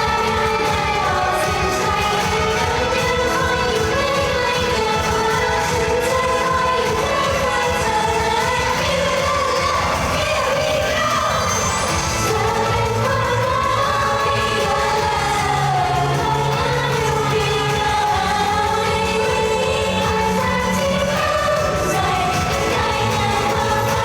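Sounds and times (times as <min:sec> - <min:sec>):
female group singing pop song: 0:00.0 - 0:24.0
steady bass line: 0:00.0 - 0:24.0.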